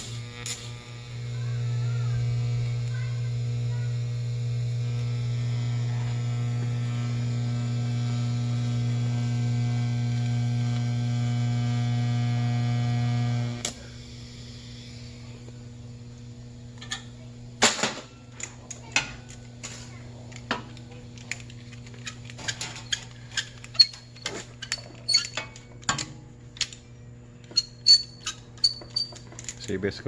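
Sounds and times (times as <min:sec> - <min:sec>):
welder humming: 0:00.0 - 0:24.2.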